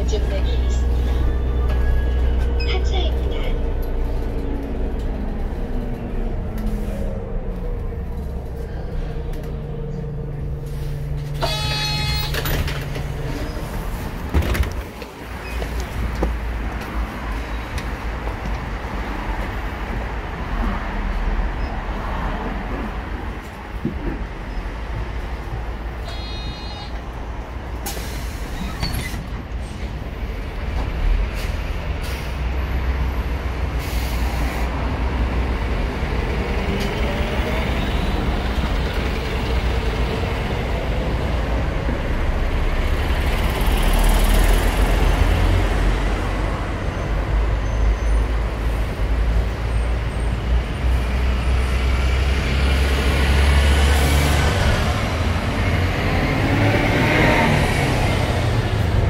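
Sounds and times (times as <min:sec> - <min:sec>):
bus engine rumbling: 0:00.0 - 0:59.0
bus pulling away whine: 0:00.0 - 0:59.0.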